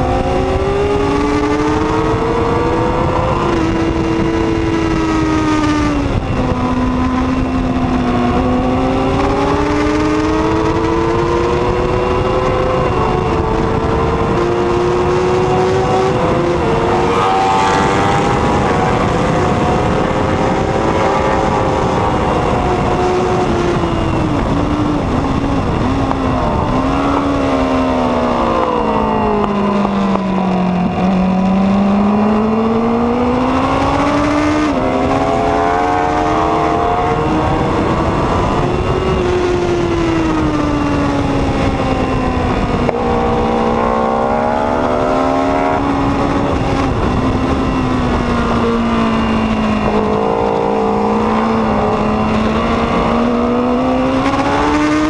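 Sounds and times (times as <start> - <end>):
heavy wind noise: 0.0 - 55.0
motorcycle engine at racing speed: 0.0 - 55.0.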